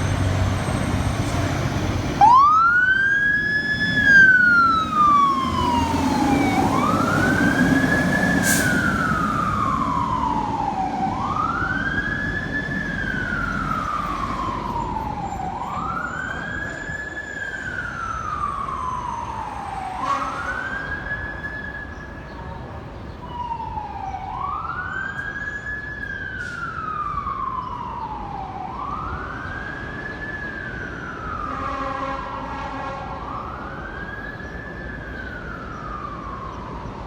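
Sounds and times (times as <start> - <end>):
road and engine noise: 0.0 - 37.0.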